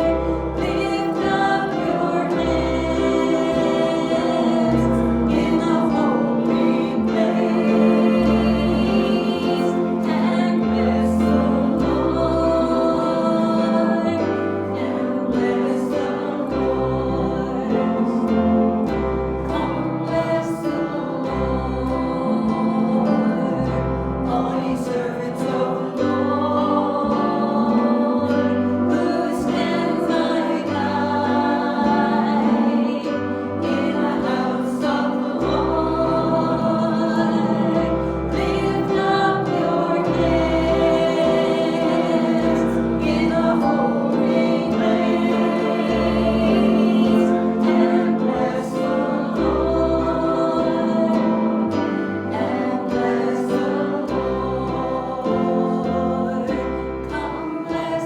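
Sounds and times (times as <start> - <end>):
instrumental accompaniment: 0.0 - 58.0
voices singing gospel song: 0.0 - 58.0.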